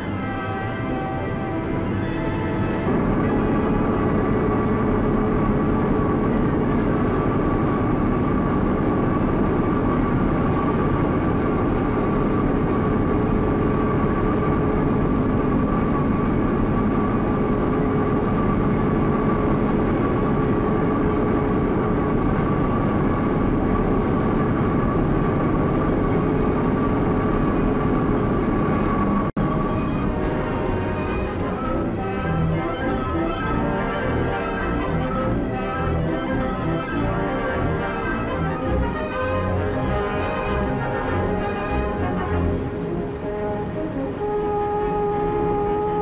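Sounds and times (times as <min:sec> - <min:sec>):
machinery rumble: 0:00.0 - 0:46.0
steady hum: 0:00.0 - 0:46.0.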